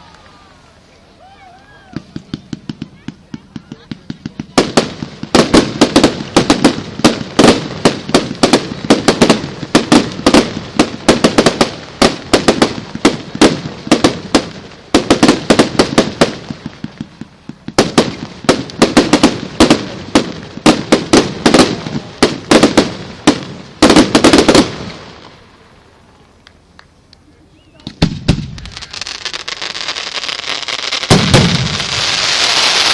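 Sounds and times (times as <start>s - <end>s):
fireworks bangs: 0.0s - 26.4s, 27.4s - 32.9s.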